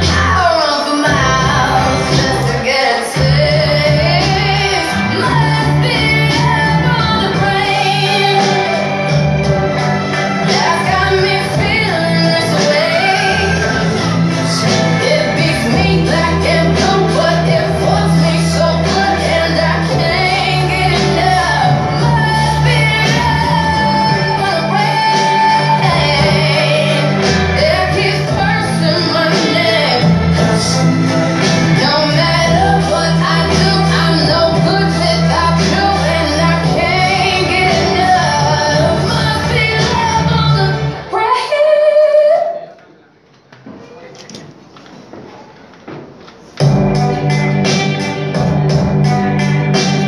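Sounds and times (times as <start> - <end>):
song with sung melody: 0.0 - 43.0, 45.9 - 50.0.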